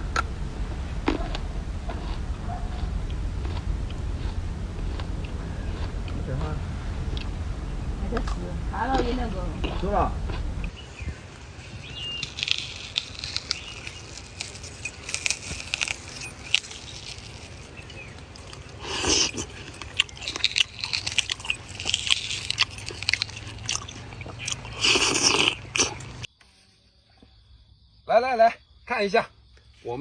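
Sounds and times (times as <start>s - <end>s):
crunchy fruit chewing: 1.0s - 7.4s, 8.1s - 26.3s.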